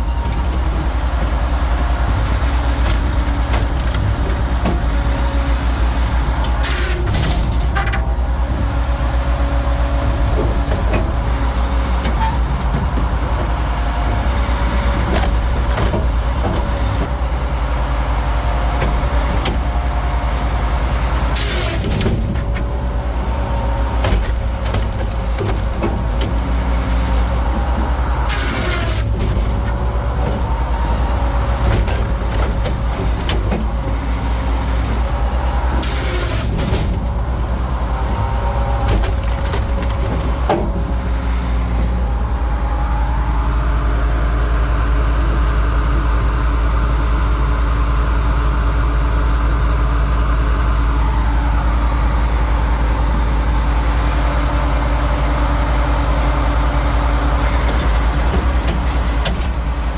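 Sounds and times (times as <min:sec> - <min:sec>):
engine drone: 0:00.0 - 0:59.9.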